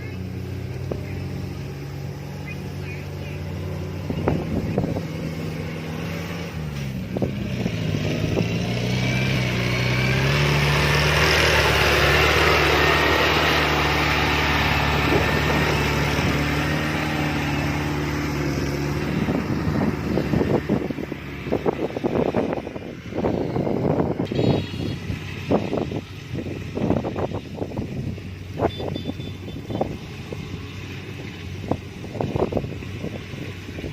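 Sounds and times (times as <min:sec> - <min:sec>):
combine harvester engine drone: 0:00.0 - 0:33.9.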